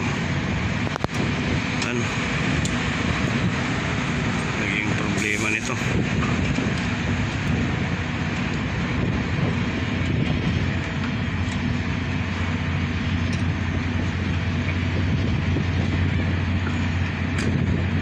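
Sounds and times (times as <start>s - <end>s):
low mechanical hum: 0.0s - 18.0s
wind rushing over microphone: 0.0s - 18.0s.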